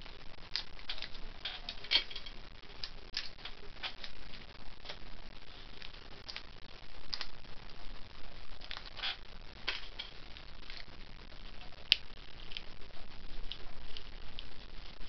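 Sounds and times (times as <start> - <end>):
eggshell crackling: 0.0 - 15.0.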